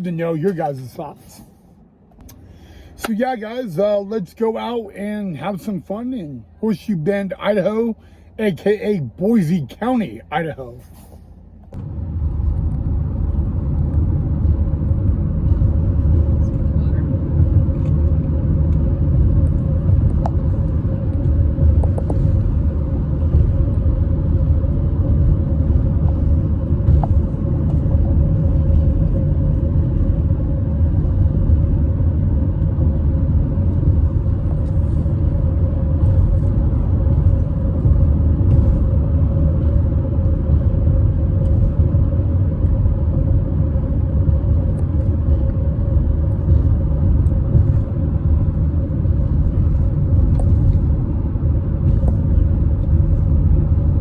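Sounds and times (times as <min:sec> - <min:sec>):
car road and engine rumble: 0:00.0 - 0:54.0
faint constant drone: 0:00.0 - 0:54.0.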